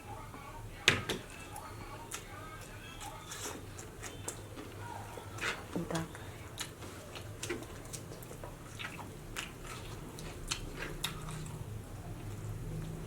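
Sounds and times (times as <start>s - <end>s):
person chewing food: 1.3s - 13.0s.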